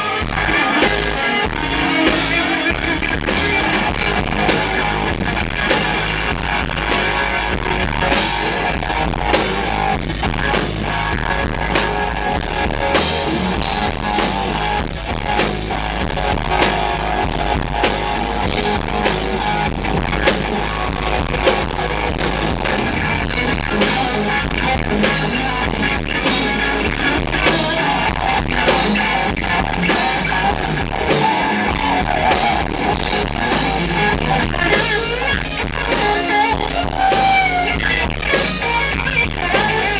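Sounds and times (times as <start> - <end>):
distorted kick drums: 0.0 - 39.9
live rock band: 0.0 - 39.9.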